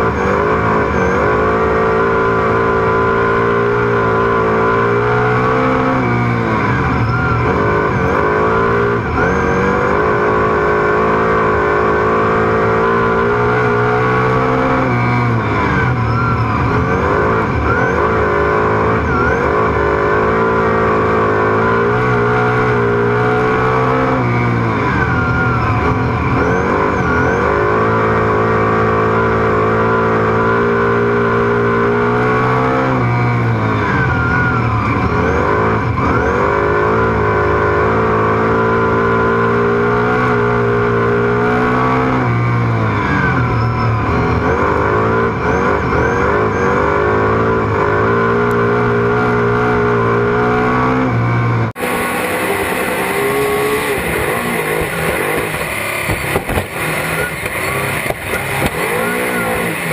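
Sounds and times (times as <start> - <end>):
race car engine at full throttle: 0.0 - 59.9
tyre squeals: 0.0 - 59.9.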